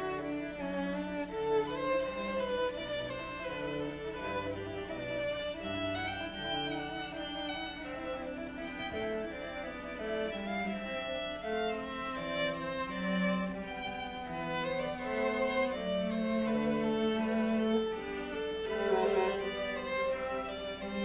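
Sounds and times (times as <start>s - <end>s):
solo viola melody: 0.0s - 21.0s.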